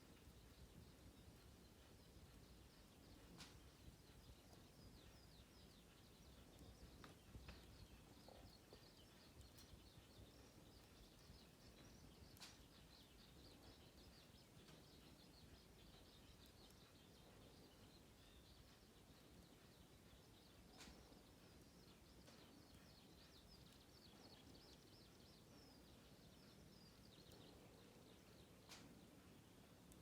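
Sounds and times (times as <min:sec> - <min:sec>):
faint birdsong: 0:00.0 - 0:30.0
faint sharp clicks: 0:01.4 - 0:30.0.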